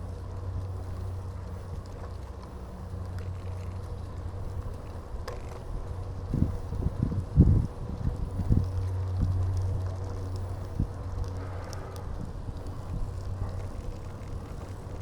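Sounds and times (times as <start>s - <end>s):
bicycle tyres rolling: 0.0s - 15.0s.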